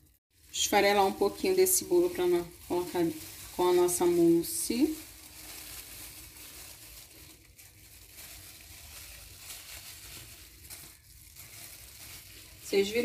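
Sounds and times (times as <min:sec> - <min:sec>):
plastic gloves crinkling: 0:00.0 - 0:13.0.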